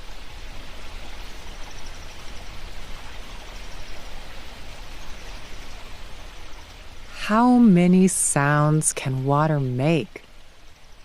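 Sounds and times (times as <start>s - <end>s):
stream water running over rocks: 0.0s - 11.0s.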